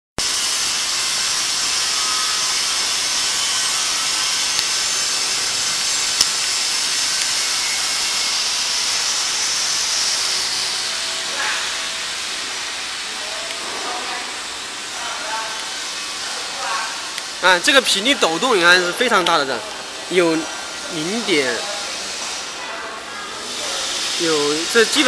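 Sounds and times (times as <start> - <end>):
machine running with high hiss: 0.2 - 25.0.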